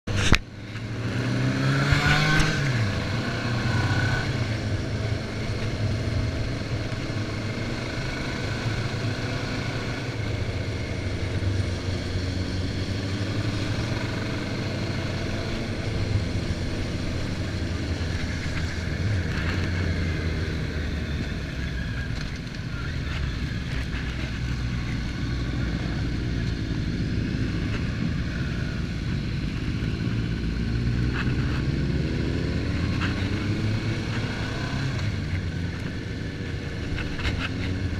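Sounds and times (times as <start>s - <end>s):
motorcycle engine running: 0.1s - 37.9s.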